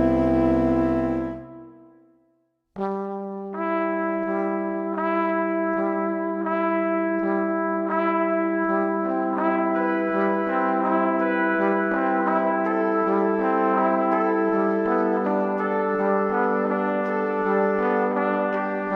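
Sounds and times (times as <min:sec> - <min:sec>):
brass-like instrumental music: 0:00.0 - 0:02.0, 0:02.8 - 0:18.9.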